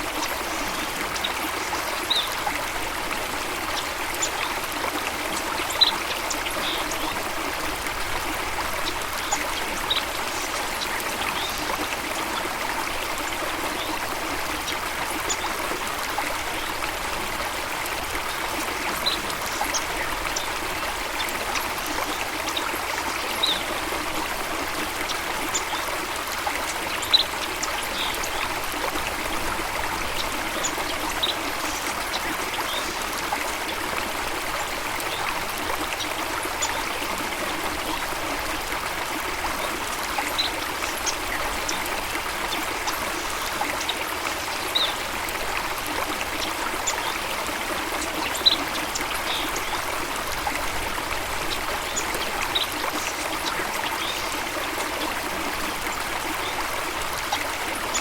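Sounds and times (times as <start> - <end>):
stream rushing and trickling: 0.0 - 58.0.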